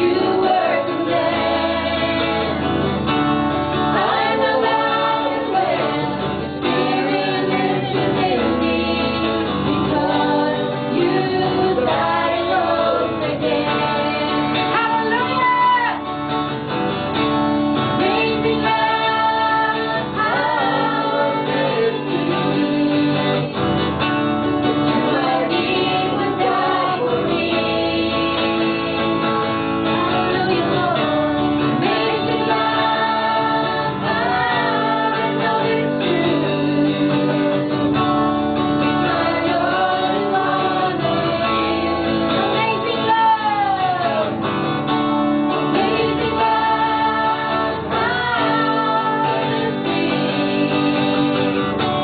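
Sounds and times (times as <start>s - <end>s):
women singing into microphones: 0.0s - 2.7s, 3.9s - 16.0s, 17.9s - 23.8s, 24.9s - 38.0s, 38.8s - 44.4s, 45.6s - 51.7s
guitar accompaniment: 0.0s - 52.0s.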